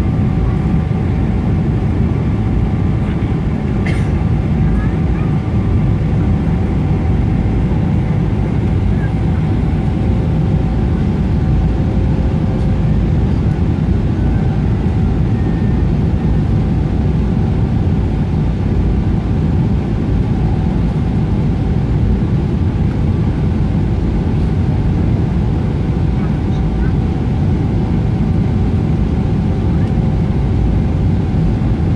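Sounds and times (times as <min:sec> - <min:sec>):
airplane cabin rumble: 0:00.0 - 0:31.9.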